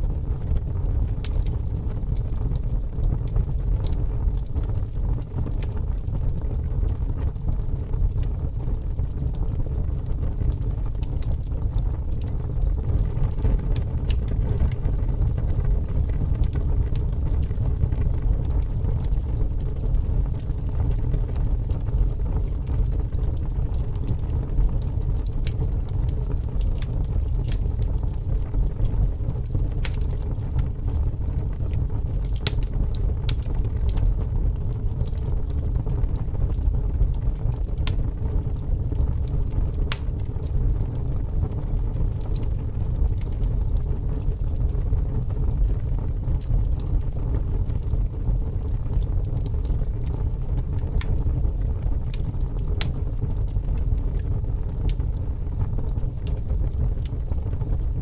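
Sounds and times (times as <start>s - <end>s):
fire rumbling and crackling: 0.0s - 58.0s.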